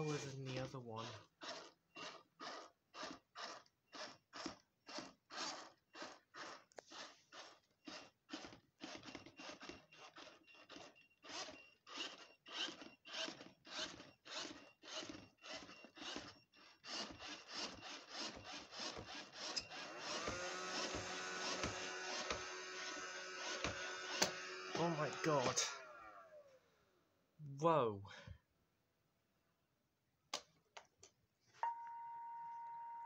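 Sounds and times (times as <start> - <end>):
robot vacuum rasping pulse: 0.0 - 26.6.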